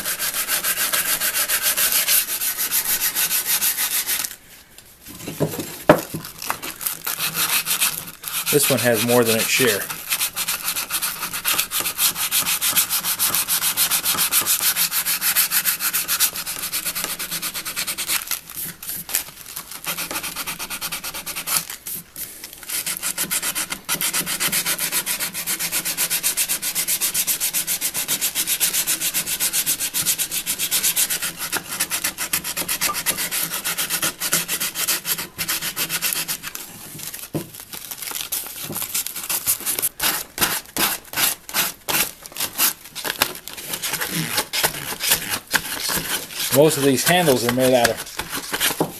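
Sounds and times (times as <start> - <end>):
sandpaper rubbing on wood: 0.0 - 4.2, 7.0 - 18.3, 19.8 - 21.7, 22.7 - 36.5, 39.2 - 48.9.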